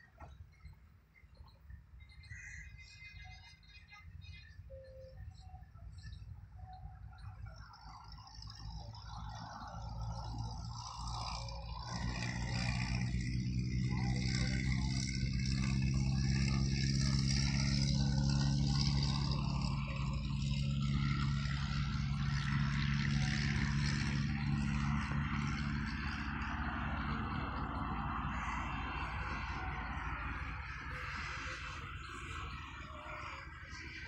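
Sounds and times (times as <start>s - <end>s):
engine droning: 0.0s - 34.0s.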